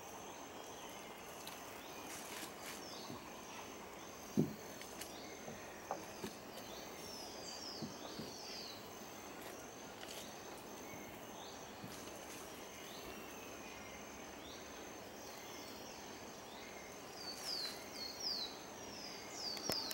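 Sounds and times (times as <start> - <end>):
forest hiss: 0.0 - 19.9
high insect drone: 0.0 - 19.9.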